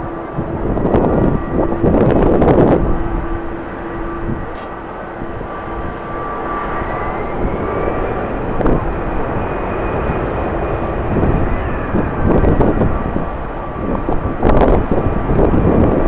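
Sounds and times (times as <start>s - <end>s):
jet engines whining: 0.0s - 16.0s
wind rumbling on microphone: 0.0s - 16.0s.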